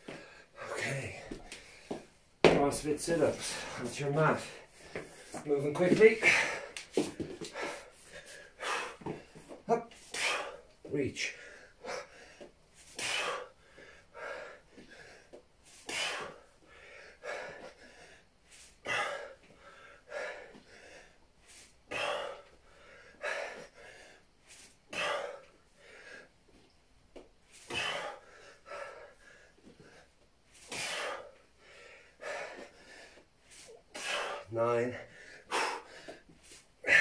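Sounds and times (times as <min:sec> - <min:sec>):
man breathing forcefully: 0:00.0 - 0:02.2, 0:03.0 - 0:26.4, 0:27.5 - 0:37.0.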